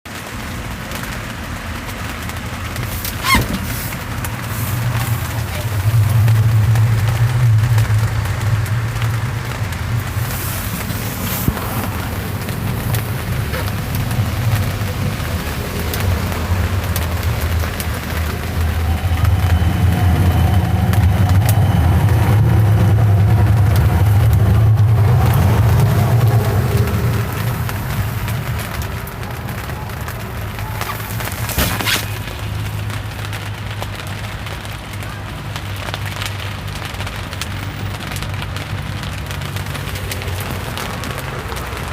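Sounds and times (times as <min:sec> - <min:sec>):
rain falling: 0:00.0 - 0:41.9
motor vehicle engine rumbling: 0:00.1 - 0:41.9.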